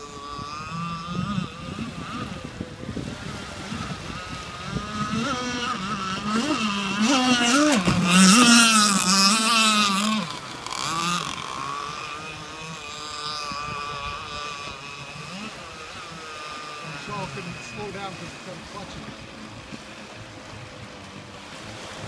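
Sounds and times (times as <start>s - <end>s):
boat engine running at speed: 0.0s - 22.0s.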